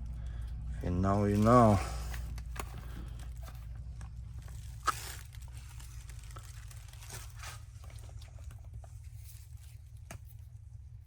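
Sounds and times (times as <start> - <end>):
steady low hum: 0.0 - 11.0
packaging rustling and crinkling: 1.2 - 10.5.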